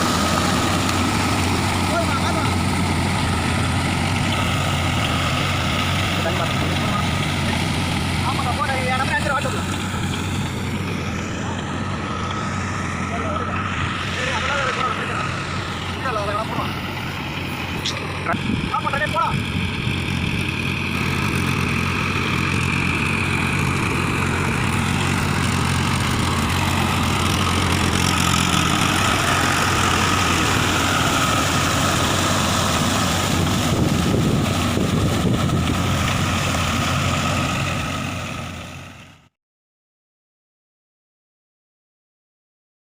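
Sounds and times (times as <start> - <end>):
tractor diesel engine running: 0.0 - 39.3.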